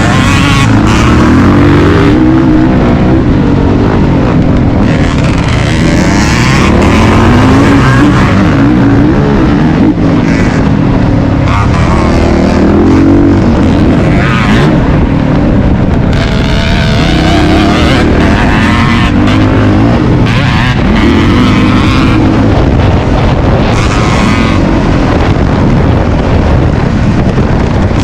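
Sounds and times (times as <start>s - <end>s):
dirt bike engine revving: 0.0s - 28.0s
wind buffeting microphone: 0.0s - 28.0s.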